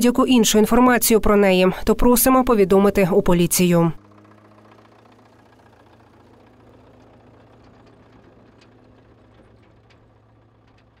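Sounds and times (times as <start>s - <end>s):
low mechanical hum: 0.1s - 11.0s.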